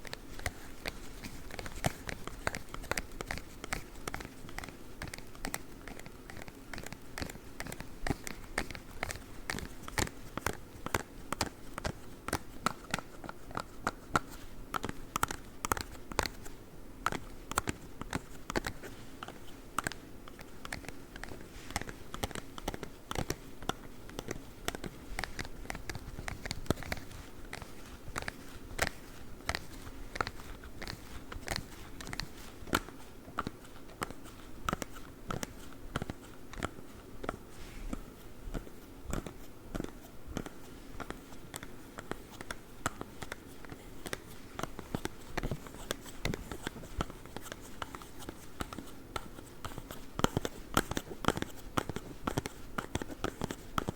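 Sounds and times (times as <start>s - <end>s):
gloves scratching and tapping: 0.0s - 53.9s.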